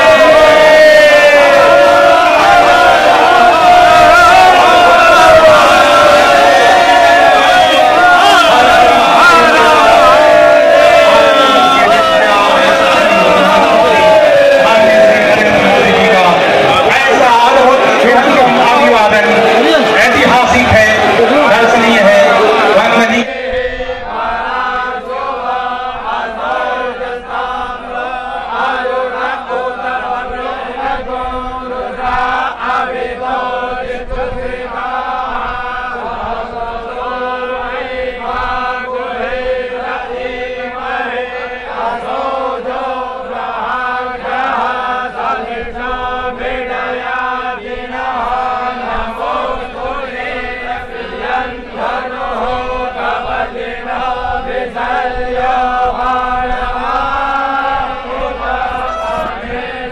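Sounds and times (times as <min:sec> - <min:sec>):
voices chanting: 0:00.0 - 0:59.9.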